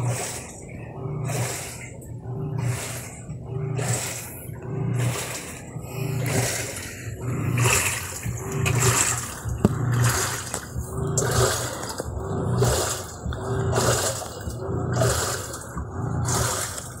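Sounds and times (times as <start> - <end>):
washing machine motor humming: 0.0 - 17.0
water sloshing in drum: 0.0 - 17.0.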